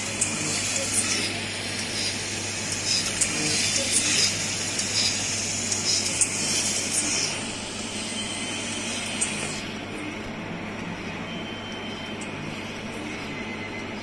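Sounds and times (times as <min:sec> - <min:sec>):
machine whirring: 0:00.0 - 0:14.0.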